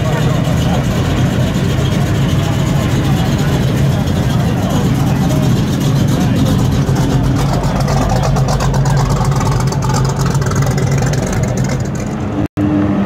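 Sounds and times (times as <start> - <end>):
car engine pulsing exhaust: 0.0 - 13.0
engine humming: 0.0 - 13.0.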